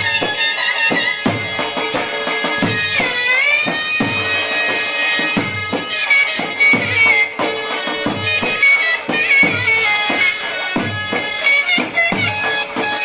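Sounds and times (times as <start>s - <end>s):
drum beats: 0.0s - 13.0s
reed pipe melody: 0.0s - 13.0s.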